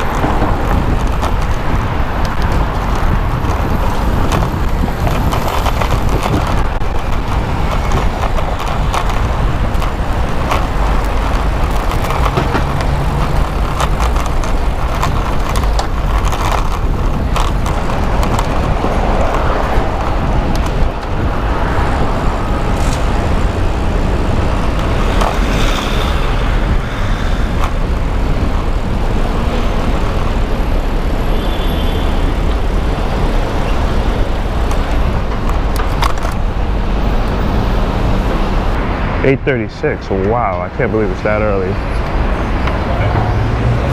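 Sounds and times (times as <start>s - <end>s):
road traffic noise: 0.0s - 43.9s
wind on microphone: 0.0s - 43.9s.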